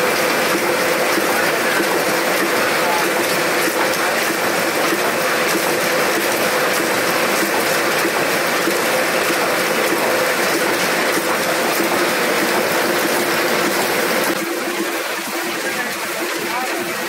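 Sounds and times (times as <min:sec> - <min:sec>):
machine hum: 0:00.0 - 0:17.0
printing press clatter: 0:00.0 - 0:17.0.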